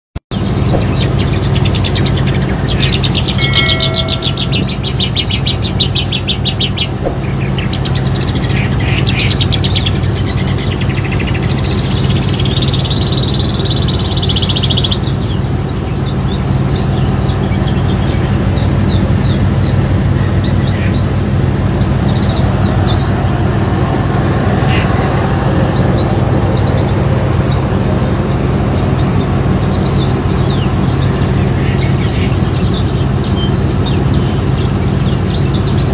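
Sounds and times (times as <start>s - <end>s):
boat engine low hum: 0.3s - 35.9s
songbird trilling and chirping: 0.4s - 35.9s.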